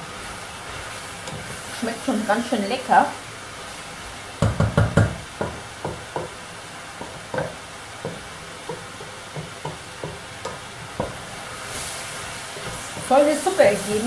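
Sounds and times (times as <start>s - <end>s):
vegetables sizzling: 0.0s - 14.0s.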